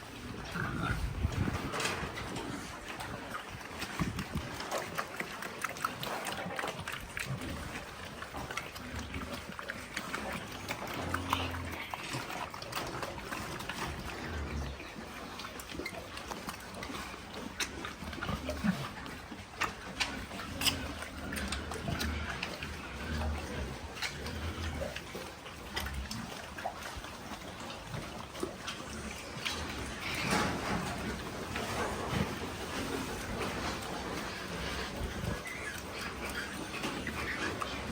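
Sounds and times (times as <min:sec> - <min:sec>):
pigs grunting: 0:00.0 - 0:37.9.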